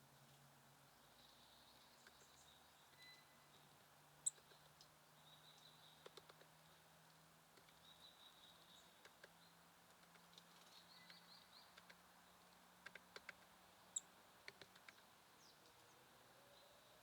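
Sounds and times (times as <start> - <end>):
songbirds chirping and trilling: 0.8 - 17.0.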